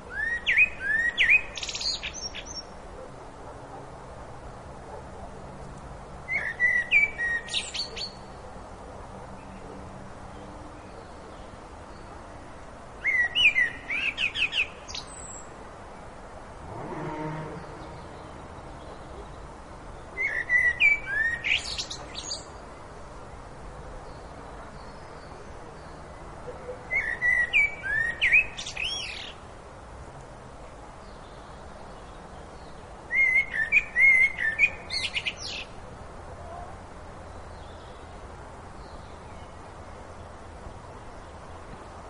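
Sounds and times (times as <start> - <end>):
songbird singing: 0.0 - 3.1, 6.2 - 8.6, 9.4 - 29.5, 30.6 - 42.0
low background noise: 0.0 - 42.0.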